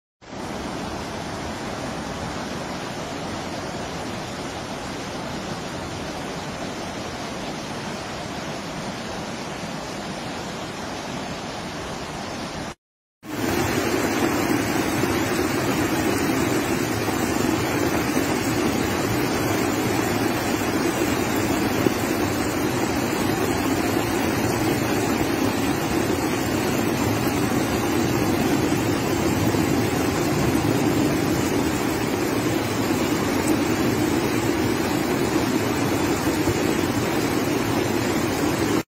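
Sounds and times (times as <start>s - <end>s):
flood water rushing: 0.3s - 38.8s.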